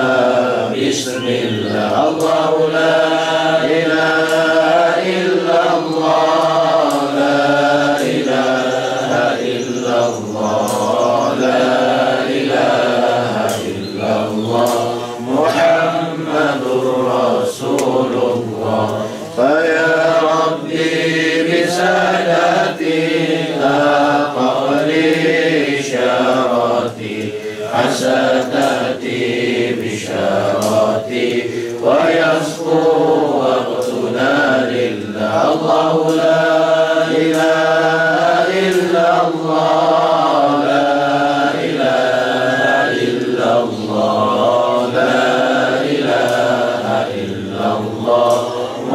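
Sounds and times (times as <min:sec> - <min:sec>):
melodic vocal chanting: 0:00.0 - 0:48.9.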